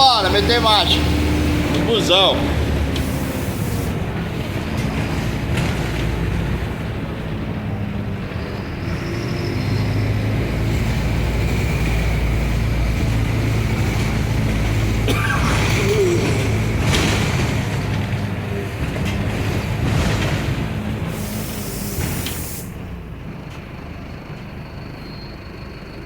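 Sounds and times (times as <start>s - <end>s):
bus engine droning: 0.0s - 26.0s.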